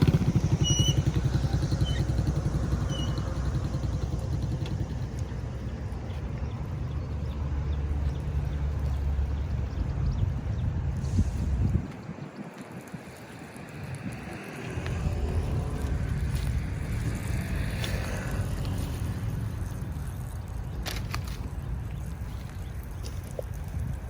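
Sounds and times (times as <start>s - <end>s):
engine running with low pulse: 0.0s - 24.0s.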